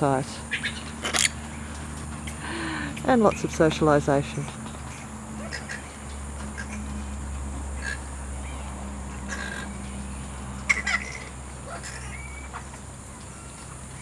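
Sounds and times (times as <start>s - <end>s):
steady low hum: 0.0s - 14.0s
flying foxes squawking: 0.4s - 3.7s, 4.4s - 14.0s.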